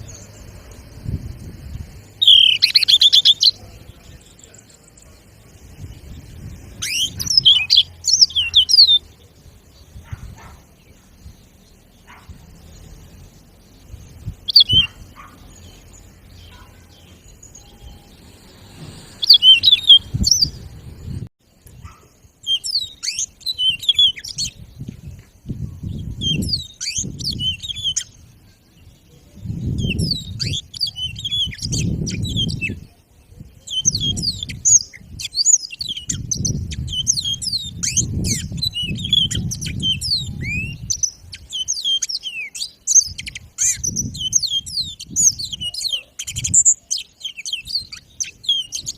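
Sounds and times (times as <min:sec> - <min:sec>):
finch singing high chirps: 0:00.0 - 0:48.9.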